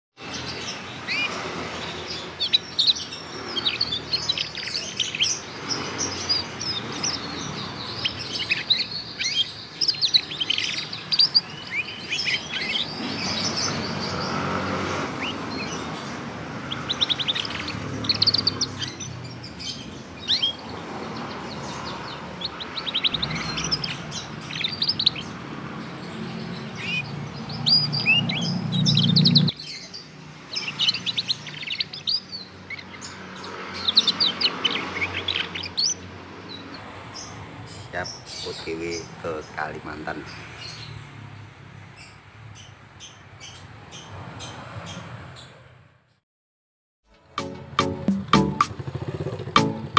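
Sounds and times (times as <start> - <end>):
canary twittering song: 0.2 - 45.6.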